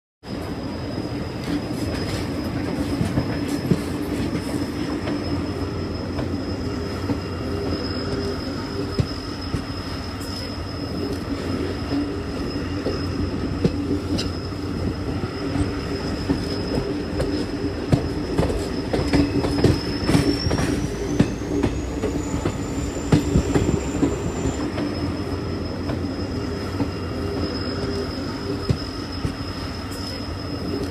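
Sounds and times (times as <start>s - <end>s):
train rumbling on track: 0.2s - 30.9s
thin high whine: 0.3s - 30.9s.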